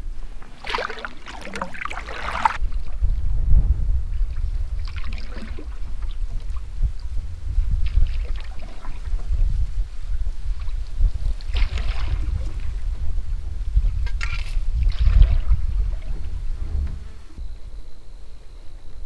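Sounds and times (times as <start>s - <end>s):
paddle swishing through water: 0.0s - 3.4s, 4.1s - 17.4s
wind rumble on microphone: 0.0s - 19.0s.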